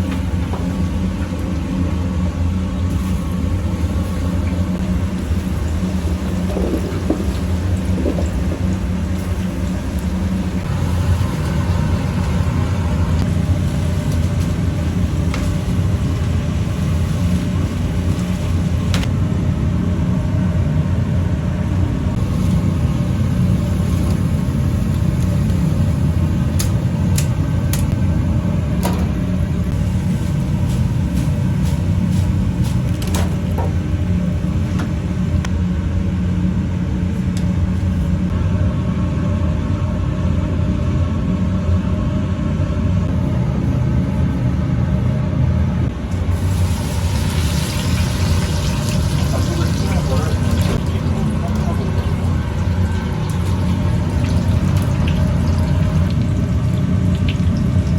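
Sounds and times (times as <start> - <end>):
loud low machinery rumble: 0.0 - 57.9.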